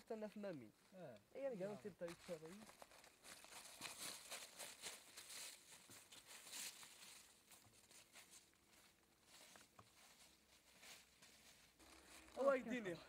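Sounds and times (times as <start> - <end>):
footsteps in dry leaves: 1.9 - 12.9.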